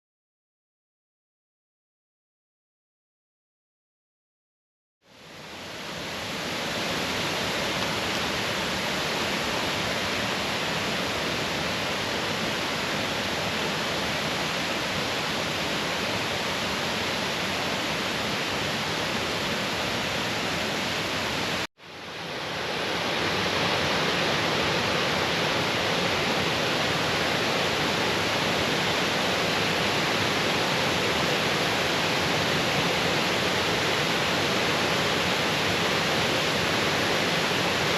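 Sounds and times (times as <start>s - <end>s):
waterfall rushing: 5.2s - 37.9s.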